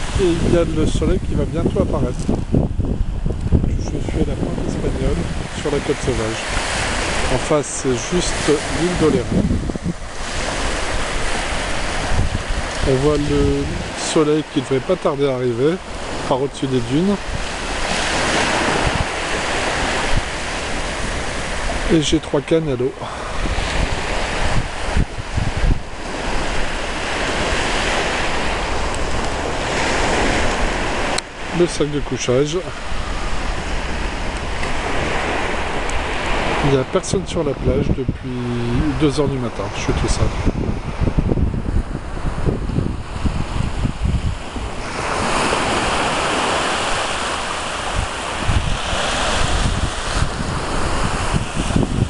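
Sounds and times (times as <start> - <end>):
ocean surf washing on beach: 0.0 - 52.0
small waves breaking on sand: 0.0 - 52.0
wind buffeting microphone: 0.0 - 52.0.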